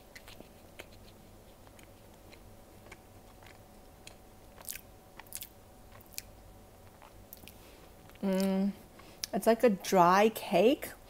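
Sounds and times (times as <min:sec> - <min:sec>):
person chewing soft cake: 0:00.0 - 0:09.3.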